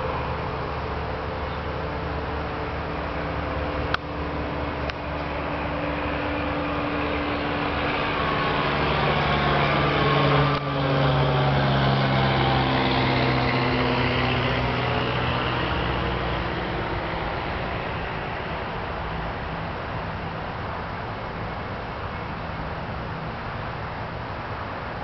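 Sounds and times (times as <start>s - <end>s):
vehicle engine hum: 0.0s - 25.0s.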